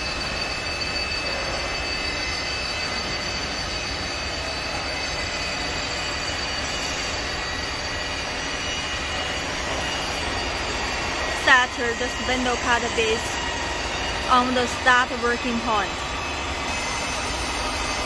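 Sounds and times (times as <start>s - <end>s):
lathe motor whine: 0.0s - 18.0s.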